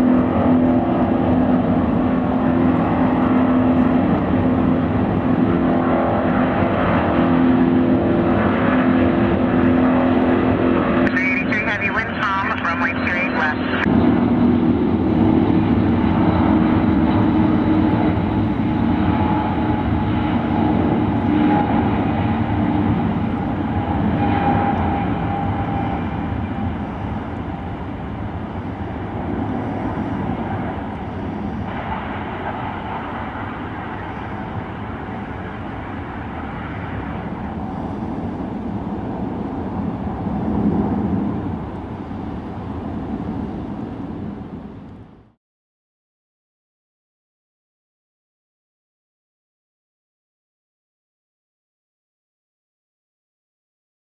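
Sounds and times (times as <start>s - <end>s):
jet engine whining: 0.0s - 45.4s
low steady jet rush: 0.0s - 45.4s.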